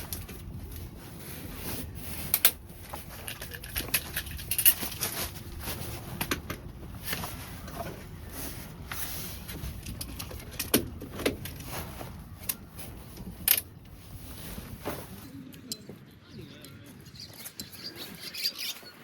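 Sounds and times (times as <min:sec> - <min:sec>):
camping gear being handled: 0:00.0 - 0:16.2.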